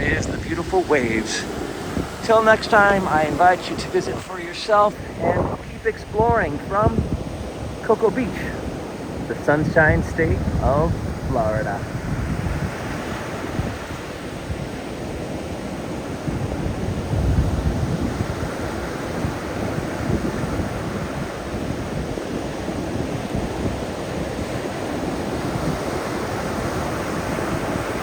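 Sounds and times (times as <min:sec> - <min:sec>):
surf washing onto beach: 0:00.0 - 0:28.0
wind buffeting microphone: 0:00.0 - 0:28.0.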